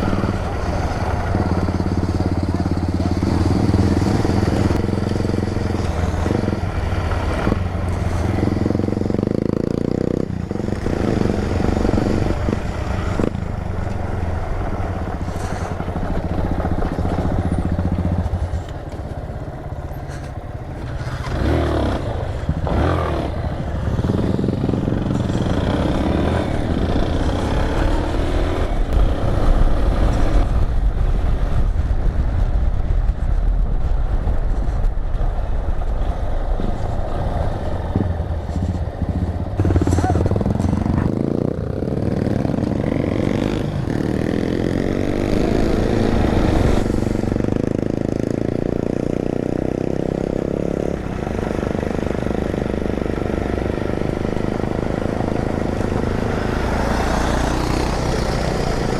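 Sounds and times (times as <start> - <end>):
motorcycle engine revving: 0.0 - 58.9
wind rumbling on microphone: 0.0 - 58.9.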